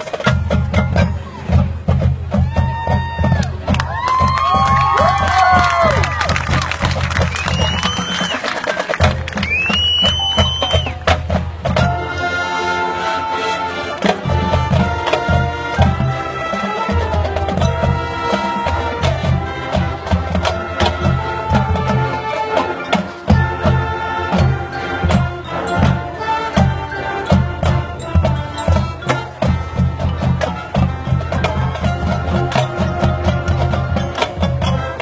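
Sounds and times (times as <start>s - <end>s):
marching band playing: 0.0s - 35.0s.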